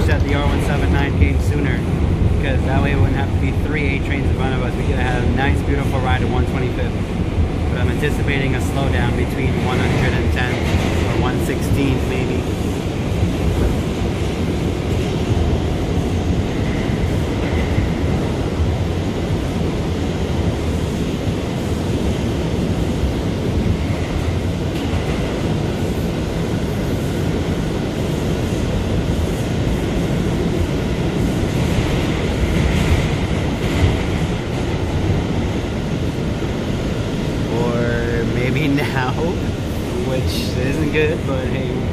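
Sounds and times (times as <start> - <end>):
wheels rumbling on rail: 0.0 - 41.9.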